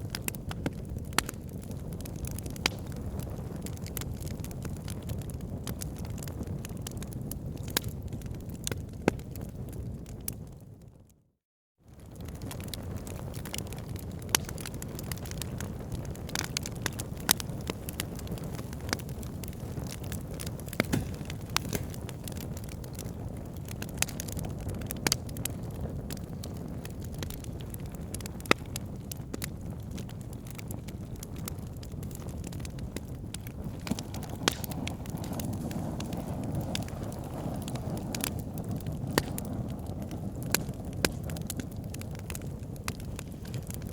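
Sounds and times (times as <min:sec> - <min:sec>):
loud pops of fire: 0:00.0 - 0:10.4, 0:11.9 - 0:43.9
wood fire crackling: 0:00.0 - 0:10.6, 0:11.9 - 0:43.9.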